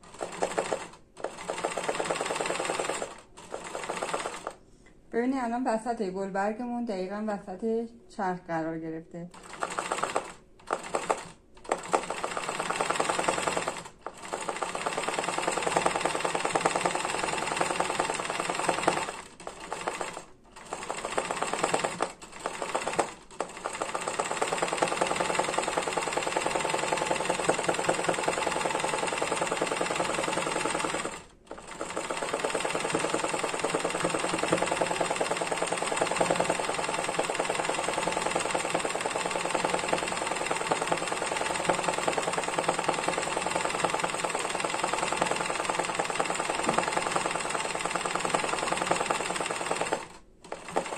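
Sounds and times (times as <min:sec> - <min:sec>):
sewing machine running: 0:00.0 - 0:04.6, 0:09.3 - 0:50.9.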